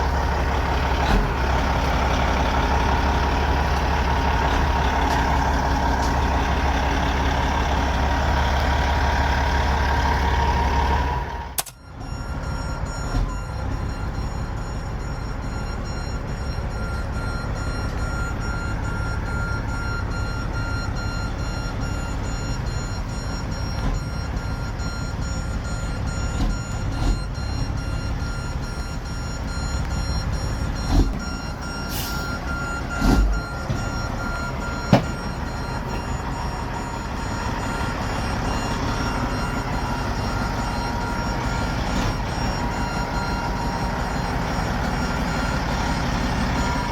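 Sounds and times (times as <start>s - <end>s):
diesel truck engine running: 0.0s - 46.9s
truck reversing alarm beeping: 0.0s - 46.9s.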